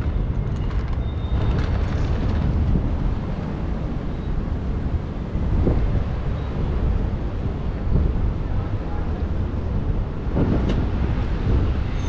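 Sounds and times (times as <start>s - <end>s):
low rumble of road traffic: 0.0s - 12.0s
wind on microphone: 0.0s - 12.0s.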